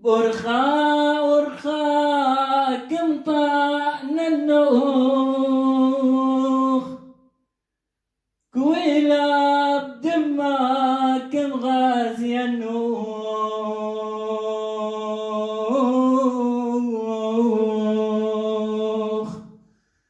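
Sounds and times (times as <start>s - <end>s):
man singing a hymn solo: 0.0s - 7.1s, 8.5s - 19.6s.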